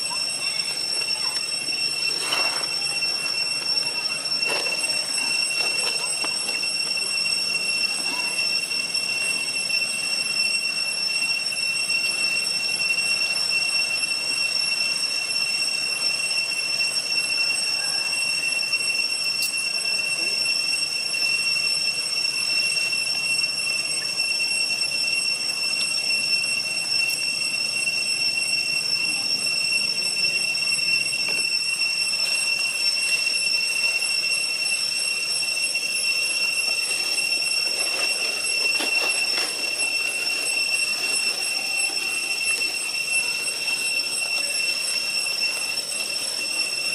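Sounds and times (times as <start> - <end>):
cicadas droning: 0.0 - 46.9.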